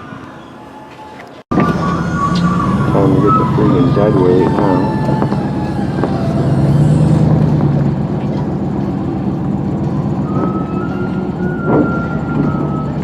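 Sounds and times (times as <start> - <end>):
truck engine running: 1.5 - 13.0.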